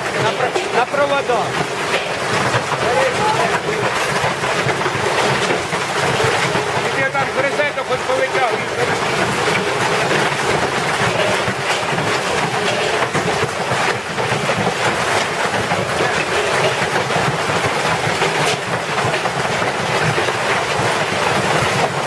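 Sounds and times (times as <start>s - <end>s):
dense crackle of small hits: 0.0s - 22.0s.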